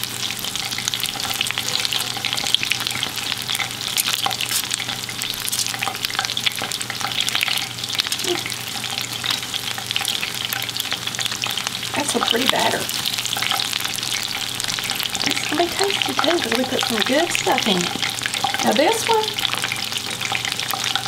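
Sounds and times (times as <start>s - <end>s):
fish frying in hot oil: 0.0s - 21.0s.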